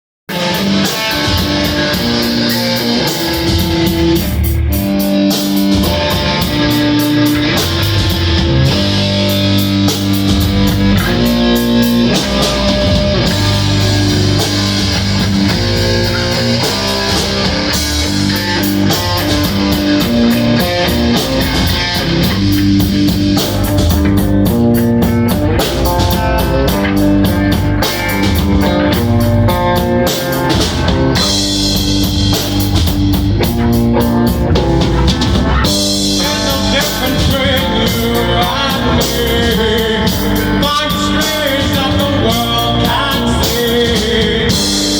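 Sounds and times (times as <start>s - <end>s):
drum kit: 0.3s - 44.9s
electric guitar: 0.3s - 44.9s.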